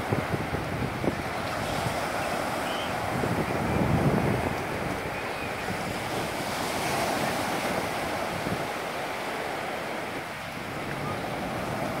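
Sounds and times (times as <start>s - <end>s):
small waves washing on shore: 0.0s - 12.0s.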